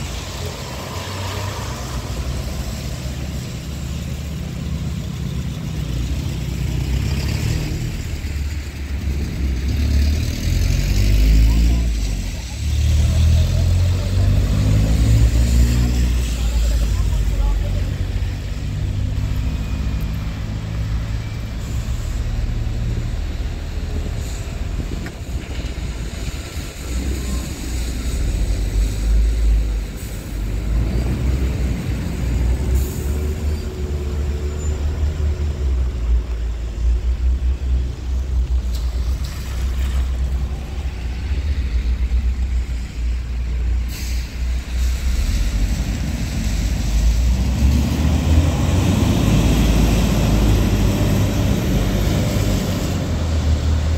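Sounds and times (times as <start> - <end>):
car engines: 0.0 - 53.9
tyres on wet asphalt: 0.0 - 53.9.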